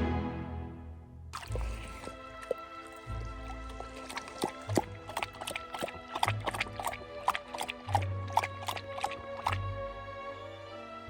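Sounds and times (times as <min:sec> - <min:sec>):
background music plucked notes: 0:00.0 - 0:11.0.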